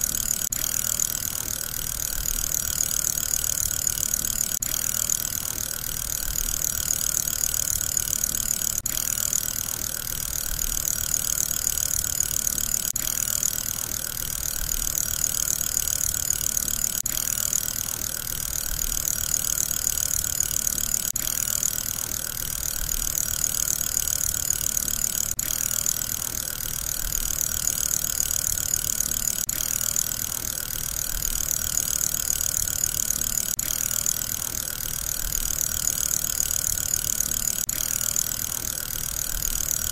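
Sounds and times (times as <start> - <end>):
fidget spinner whirring: 0.0 - 39.9.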